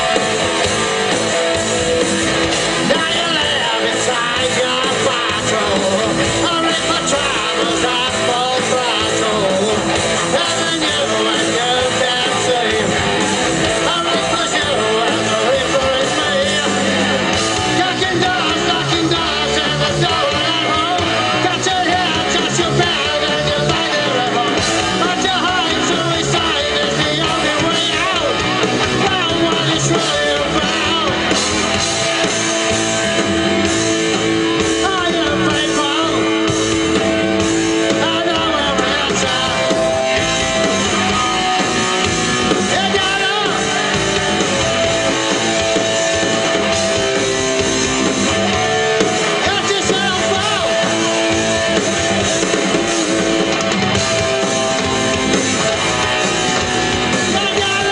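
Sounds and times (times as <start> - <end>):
electric guitar lead lines: 0.0 - 57.9
live rock band playing: 0.0 - 57.9.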